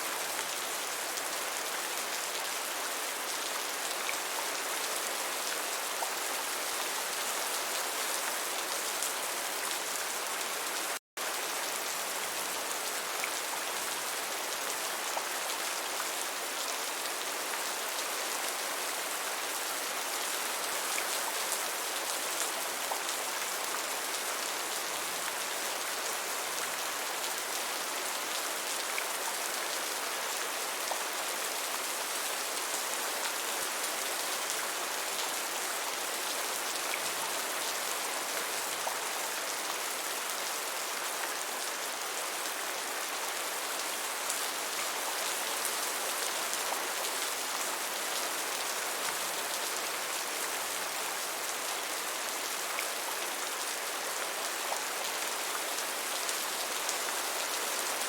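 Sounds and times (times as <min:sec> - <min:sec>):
gentle steady rain: 0:00.0 - 0:58.0.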